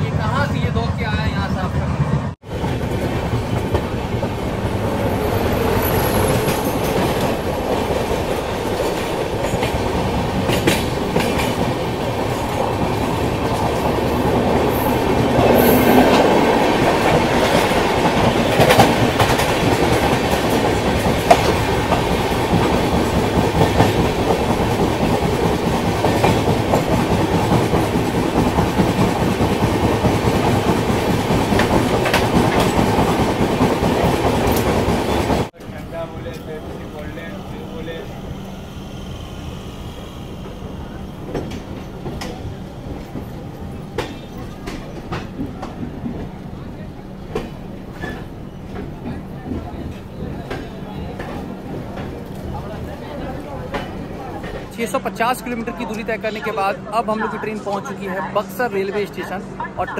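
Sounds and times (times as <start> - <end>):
passenger train rumbling: 0.0 - 59.9.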